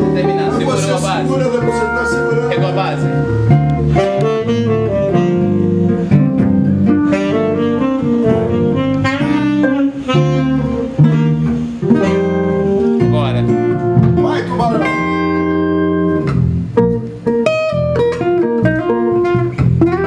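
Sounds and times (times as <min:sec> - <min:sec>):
acoustic guitar picked and strummed: 0:00.0 - 0:20.0
bass: 0:00.0 - 0:20.0
saxophone melody: 0:00.0 - 0:20.0.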